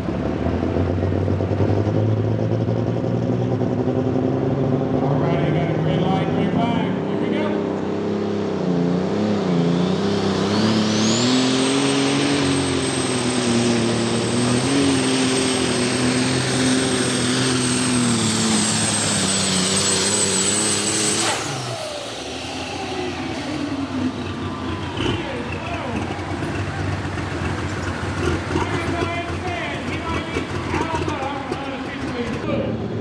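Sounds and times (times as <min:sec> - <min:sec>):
diesel engine at full throttle: 0:00.0 - 0:33.0
high turbo whine: 0:00.0 - 0:33.0.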